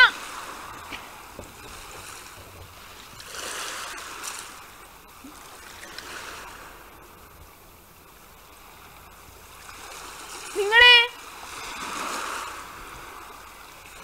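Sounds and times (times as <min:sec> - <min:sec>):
waves washing in: 0:00.0 - 0:14.0.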